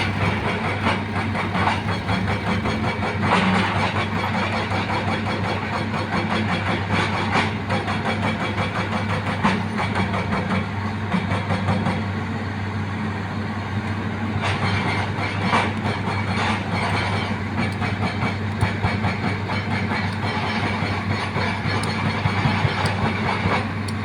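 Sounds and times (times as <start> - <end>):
hydraulic rock breaker knocking: 0.0 - 12.1, 14.4 - 24.0
excavator running: 0.0 - 24.0.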